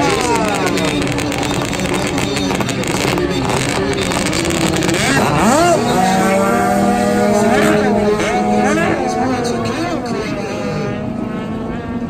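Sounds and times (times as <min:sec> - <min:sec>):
jet ski engines revving: 0:00.0 - 0:12.0.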